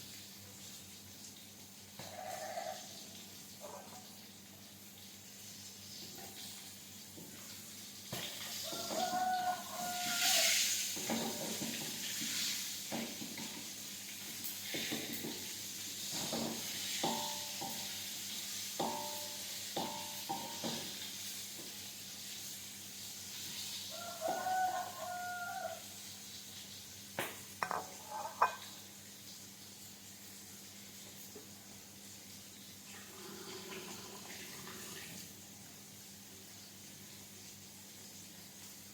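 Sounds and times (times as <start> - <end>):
food sizzling in frying oil: 0.0 - 38.9.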